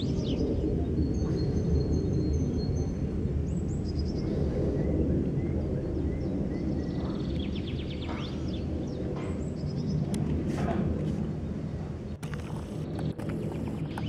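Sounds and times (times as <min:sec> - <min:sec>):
jet engines rumbling overhead: 0:00.0 - 0:14.0
songbirds chirping: 0:00.0 - 0:14.0.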